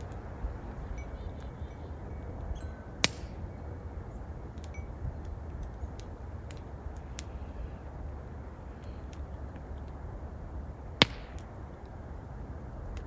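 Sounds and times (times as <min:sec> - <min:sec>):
campfire crackling and popping: 0:00.0 - 0:13.0
low wind hum: 0:00.0 - 0:13.0.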